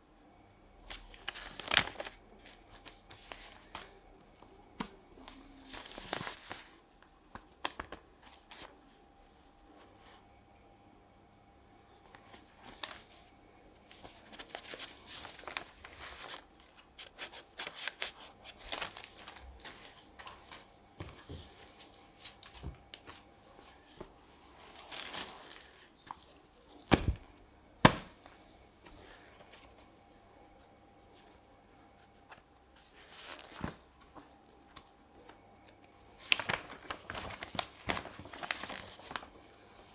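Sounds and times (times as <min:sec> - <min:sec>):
paper cards rustling: 0:00.9 - 0:08.8, 0:12.0 - 0:13.2, 0:13.8 - 0:28.2, 0:31.2 - 0:39.9.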